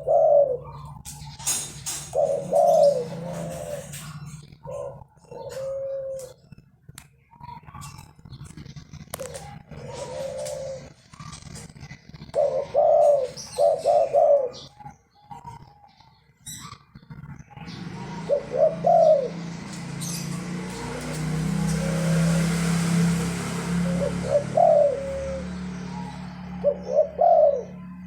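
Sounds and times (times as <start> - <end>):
doves cooing: 0.0 - 6.6, 7.3 - 28.0.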